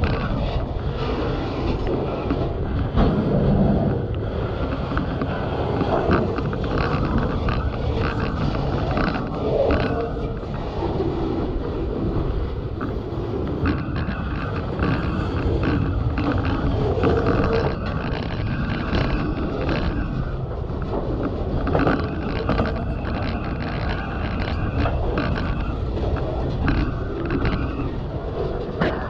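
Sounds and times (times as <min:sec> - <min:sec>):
crackly microphone noise: 0:00.0 - 0:29.0
freight train cars rolling: 0:00.0 - 0:29.0
train cars creaking: 0:00.0 - 0:29.0
wheels and couplers clicking: 0:00.0 - 0:29.0.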